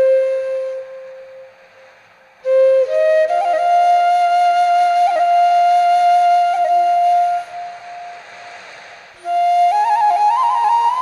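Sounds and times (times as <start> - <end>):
folk flute music: 0.0 - 11.0.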